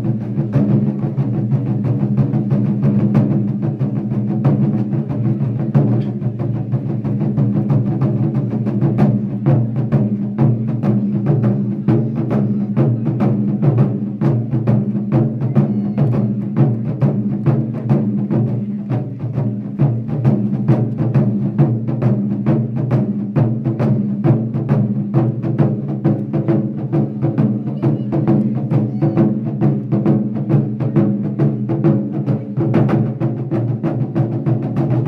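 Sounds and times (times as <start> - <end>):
taiko drums beaten fast: 0.0 - 35.0.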